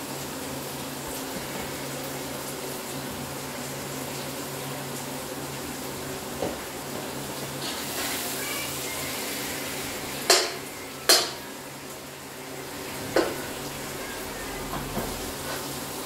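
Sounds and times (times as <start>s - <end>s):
food sizzling in pot: 0.0s - 16.0s.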